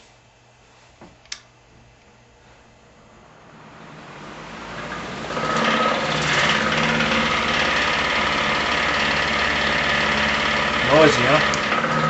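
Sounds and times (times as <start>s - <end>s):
electric fan running noisily: 0.0s - 12.0s.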